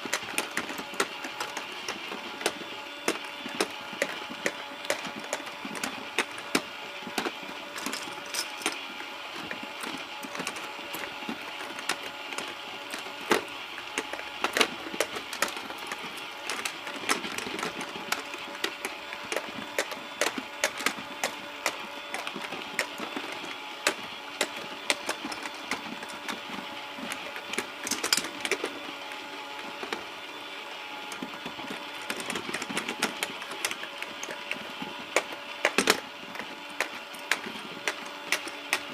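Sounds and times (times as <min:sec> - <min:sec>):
plastic clicks and taps: 0:00.0 - 0:08.8, 0:09.4 - 0:28.8, 0:31.1 - 0:38.9
toy motor whirring: 0:00.0 - 0:38.9.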